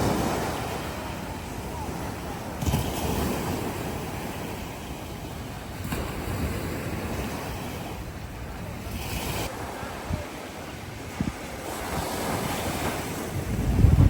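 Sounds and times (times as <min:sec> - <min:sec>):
surf rushing: 0:00.0 - 0:14.0
wind gusting against microphone: 0:00.0 - 0:14.0.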